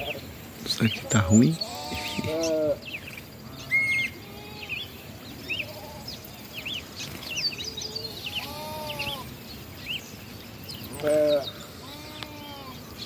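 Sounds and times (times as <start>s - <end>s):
longer lower bird call: 0.0s - 13.0s
small birds chirping: 0.0s - 13.0s.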